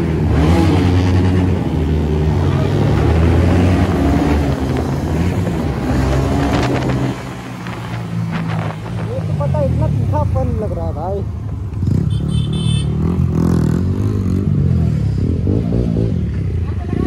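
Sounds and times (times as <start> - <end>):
motorcycle engine accelerating: 0.0 - 10.4, 11.7 - 17.0.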